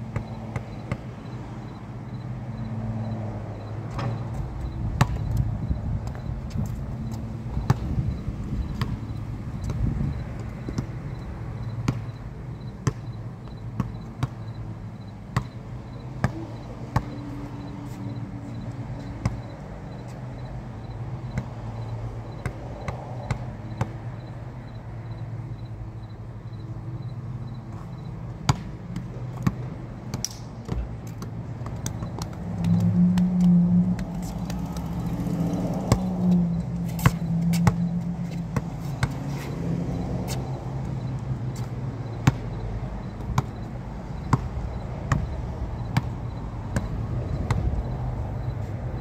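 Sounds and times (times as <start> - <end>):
basketball bouncing on concrete: 0.0 - 2.3, 3.1 - 24.4, 27.7 - 48.8
traffic hum: 0.0 - 49.0.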